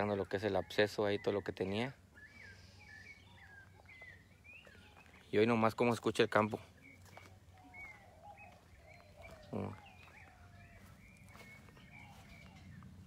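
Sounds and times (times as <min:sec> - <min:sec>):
birds chirping and whistling: 0:00.0 - 0:13.0.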